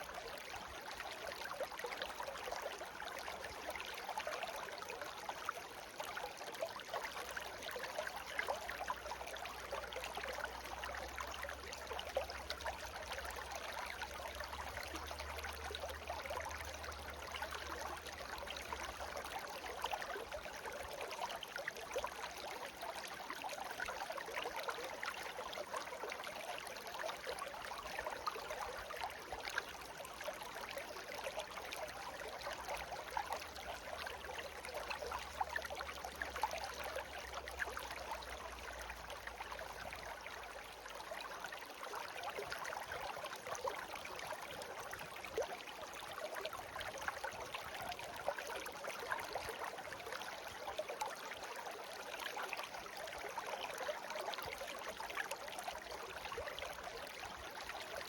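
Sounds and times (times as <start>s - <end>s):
brook babbling and trickling: 0.0s - 58.0s.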